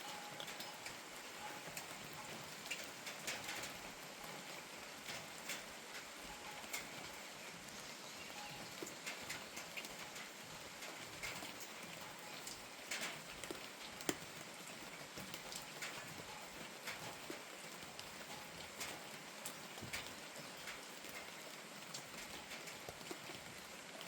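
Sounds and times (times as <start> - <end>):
raindrops tapping on surface: 0.0 - 24.0
steady rain: 0.0 - 24.0.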